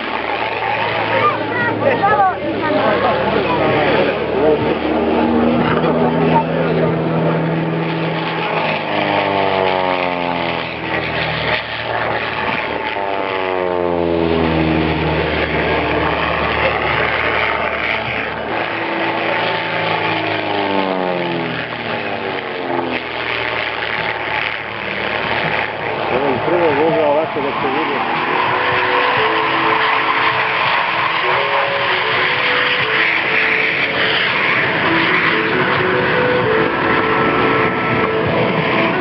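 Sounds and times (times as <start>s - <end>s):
propeller aircraft engine droning: 0.0s - 39.0s
steady noisy rush: 0.0s - 39.0s.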